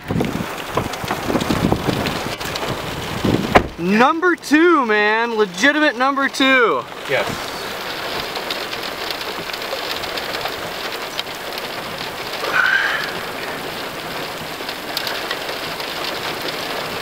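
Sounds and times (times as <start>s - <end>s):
raindrops ticking close by: 0.0s - 17.0s
steady rain: 0.0s - 17.0s.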